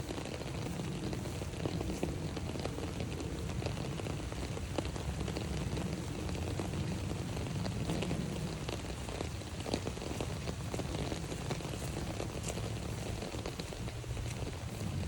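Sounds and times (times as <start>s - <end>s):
rain on an umbrella: 0.0s - 15.0s.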